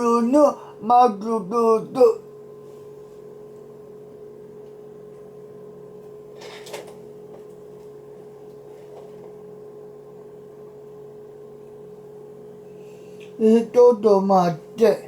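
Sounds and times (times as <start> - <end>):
steady tonal hum: 0.0 - 15.0.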